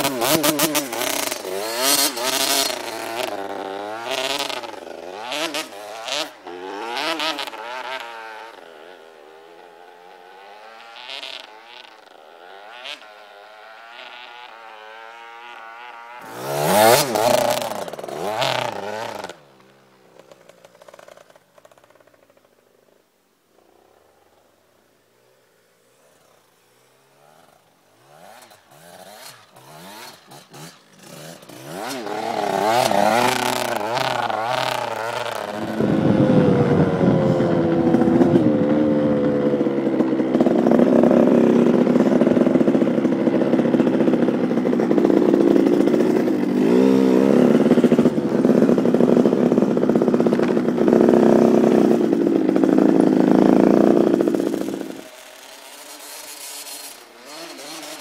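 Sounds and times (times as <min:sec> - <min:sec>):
motocross bike engine revving: 0:00.0 - 0:22.4, 0:25.2 - 0:58.0.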